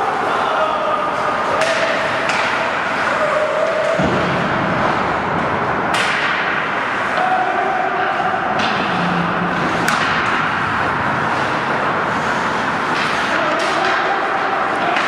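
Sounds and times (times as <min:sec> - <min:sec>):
skates scraping ice: 0:00.0 - 0:15.0
hockey sticks and puck knocking: 0:01.4 - 0:15.0.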